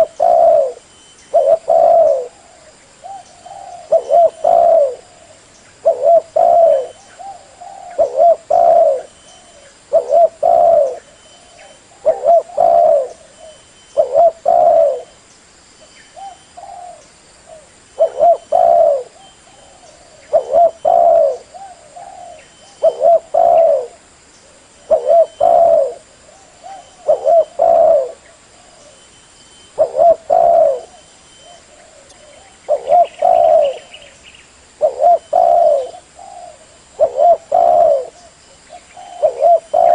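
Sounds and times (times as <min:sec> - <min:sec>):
dove cooing: 0:00.0 - 0:15.2, 0:16.2 - 0:29.0, 0:29.7 - 0:39.9.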